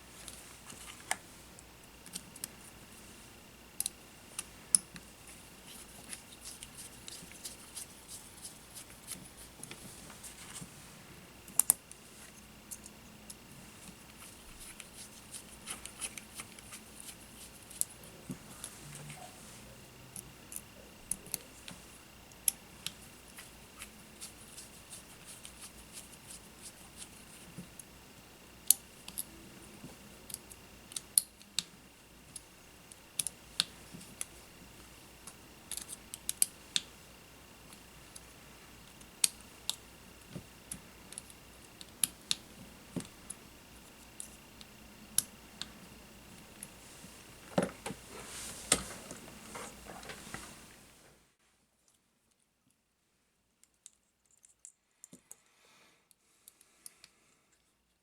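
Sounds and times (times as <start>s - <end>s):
room hiss: 0.0s - 51.8s.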